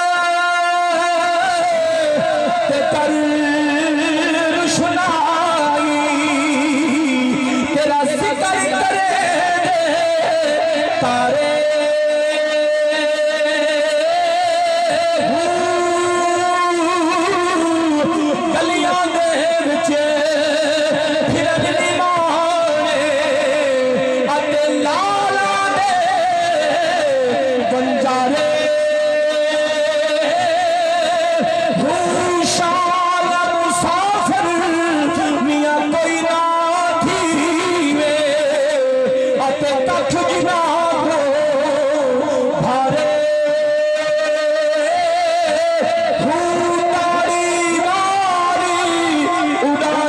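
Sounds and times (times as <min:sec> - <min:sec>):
man singing through loudspeakers: 0:00.0 - 0:50.0.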